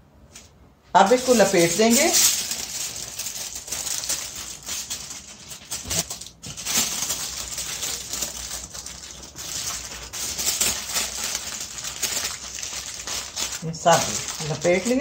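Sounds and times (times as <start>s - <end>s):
aluminium foil crinkling: 1.0s - 15.0s.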